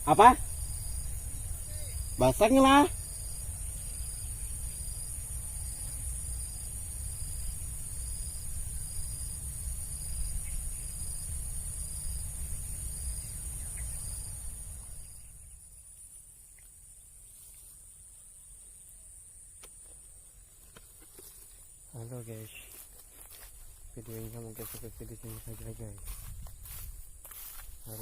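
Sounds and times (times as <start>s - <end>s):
insects droning: 0.0s - 28.0s
short high insect chirp: 0.0s - 28.0s.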